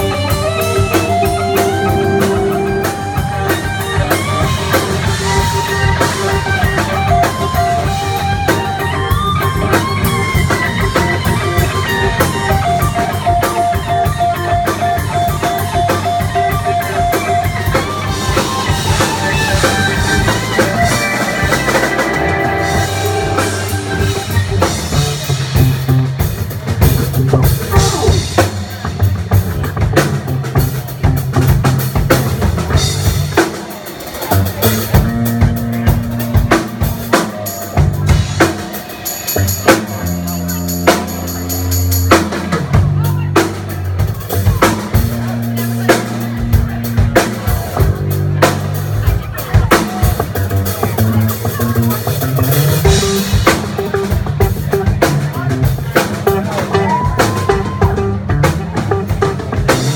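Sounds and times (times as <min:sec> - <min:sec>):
drum kit: 0:00.0 - 0:59.9
live rock band: 0:00.0 - 0:59.9.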